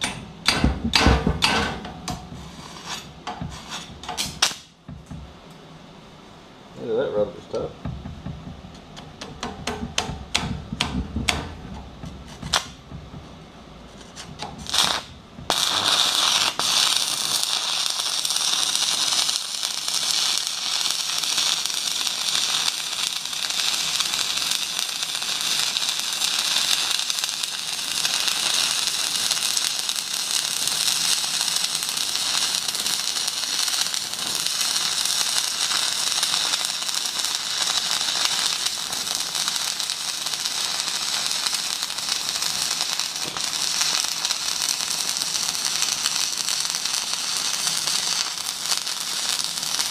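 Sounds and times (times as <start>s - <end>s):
welding arc crackling sizzle: 0.0s - 5.2s, 6.8s - 13.2s, 13.9s - 49.9s.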